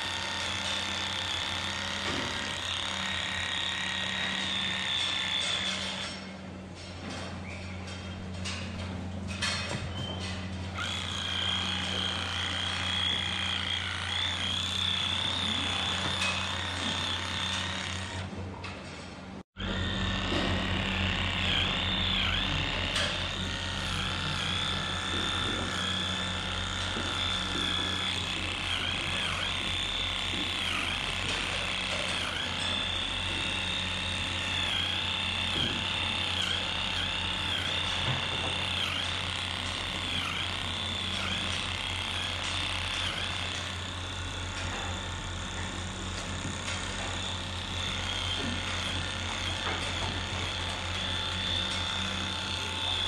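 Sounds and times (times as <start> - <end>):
electric rotary brush whining: 0.0 - 18.6, 19.3 - 53.0.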